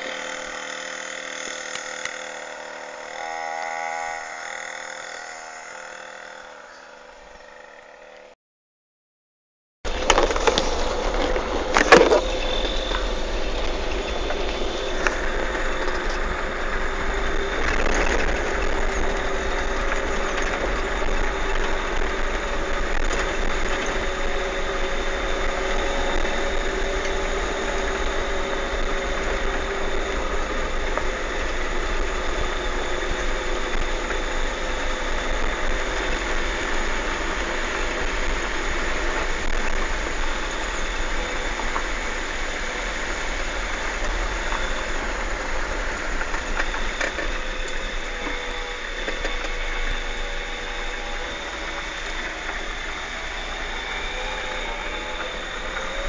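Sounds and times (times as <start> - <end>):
car engine and road rumble: 9.9 - 56.0.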